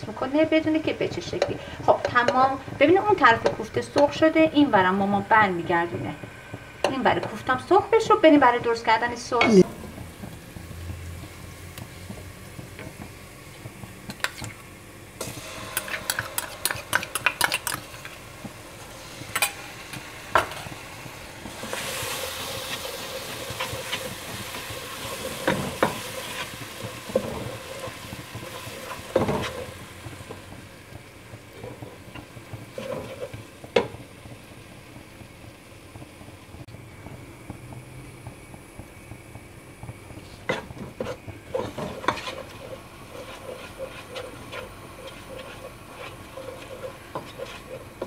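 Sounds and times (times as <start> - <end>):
onions sizzling in oil: 0.0 - 48.0.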